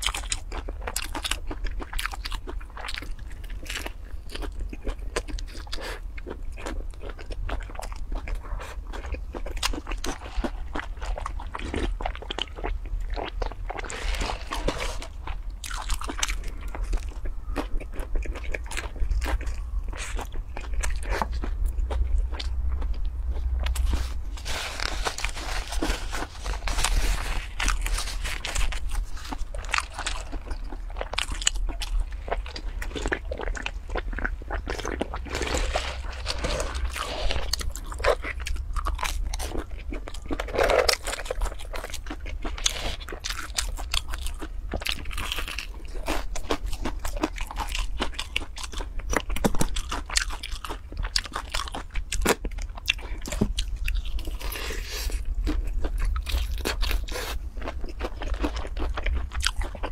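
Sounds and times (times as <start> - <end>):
crunchy fried chicken chewing: 0.0 - 59.9.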